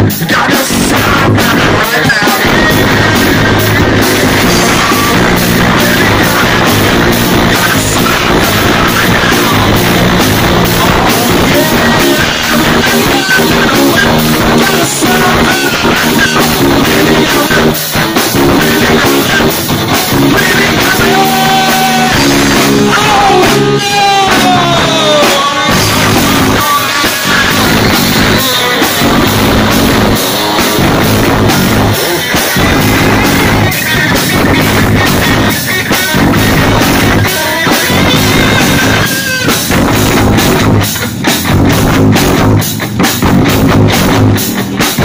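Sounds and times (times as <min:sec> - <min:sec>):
man singing: 0:00.0 - 0:40.7
bass guitar: 0:00.0 - 0:45.0
distorted electric guitar: 0:00.0 - 0:45.0
drum kit beat: 0:00.0 - 0:45.0.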